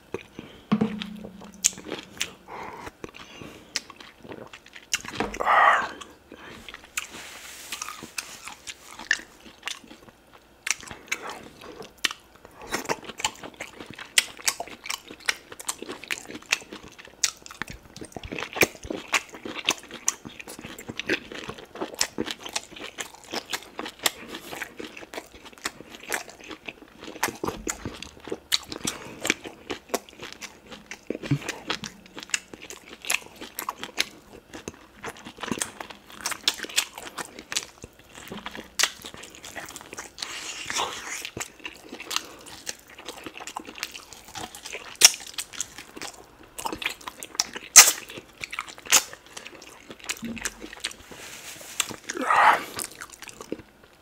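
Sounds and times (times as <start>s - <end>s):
wet chewing and mouth smacks: 1.3s - 51.1s.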